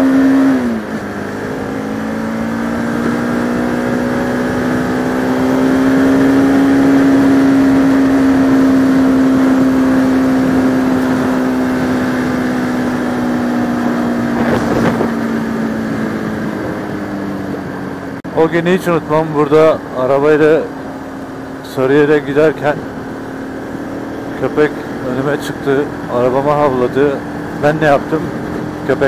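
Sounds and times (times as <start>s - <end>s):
motorcycle engine at riding revs: 0.0s - 29.0s.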